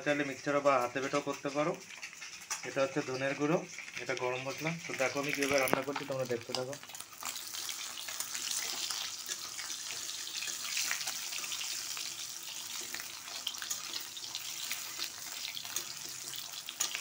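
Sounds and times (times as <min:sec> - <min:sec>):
eggs sizzling in hot oil: 0:00.0 - 0:17.0.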